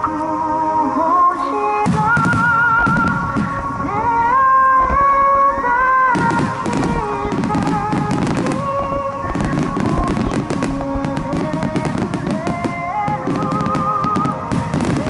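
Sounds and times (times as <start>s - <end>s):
fireworks bursting and crackling: 0.0s - 15.0s
slow melodic music: 0.0s - 15.0s.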